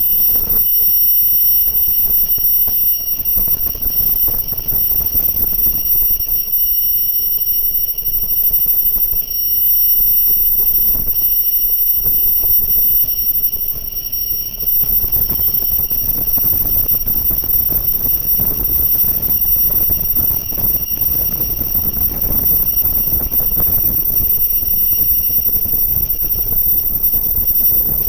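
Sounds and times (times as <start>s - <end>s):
machine high-pitched whine: 0.0s - 28.0s.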